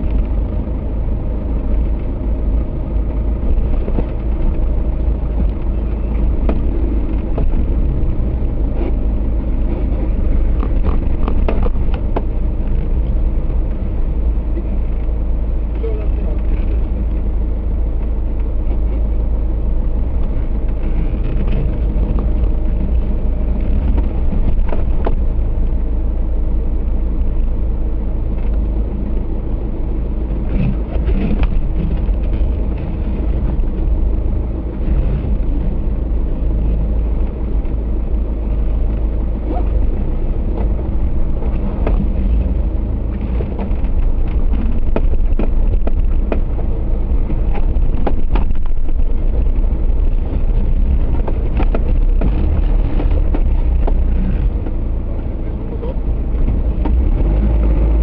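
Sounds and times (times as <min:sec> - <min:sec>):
off-road vehicle engine running: 0:00.0 - 0:58.0.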